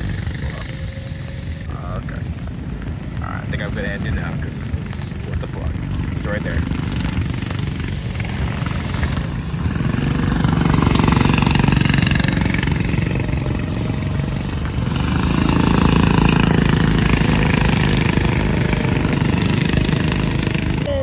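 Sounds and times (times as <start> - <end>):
go-kart engines buzzing past: 0.0 - 21.0.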